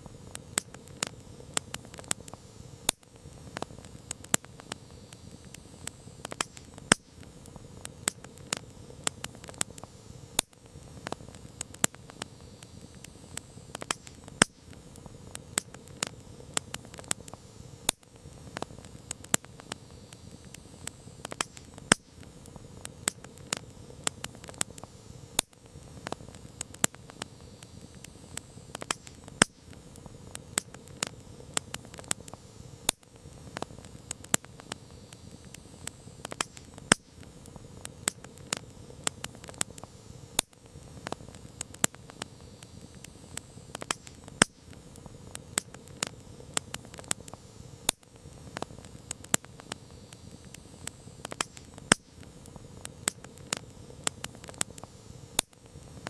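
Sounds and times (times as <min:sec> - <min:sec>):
campfire crackling and popping: 0:00.0 - 0:56.0
low hiss of burning: 0:00.0 - 0:56.0.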